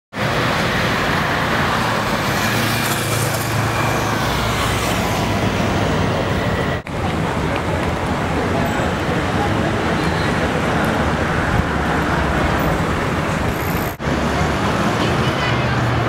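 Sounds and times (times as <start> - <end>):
street traffic rumble: 0.1 - 16.0.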